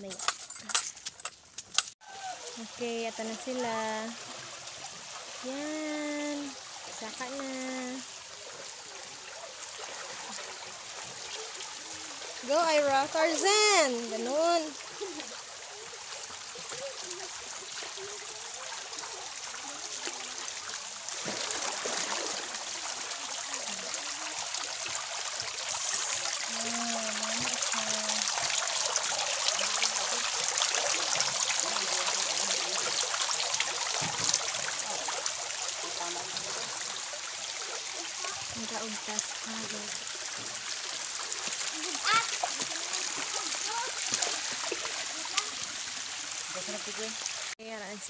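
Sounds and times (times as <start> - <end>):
water trickling down rock: 0.0 - 47.6.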